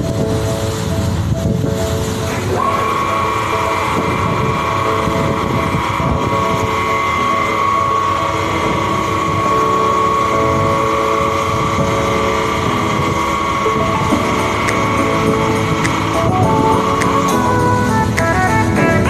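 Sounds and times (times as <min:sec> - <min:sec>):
boat engines droning: 0:00.0 - 0:19.0
water rushing against hull: 0:00.0 - 0:19.0.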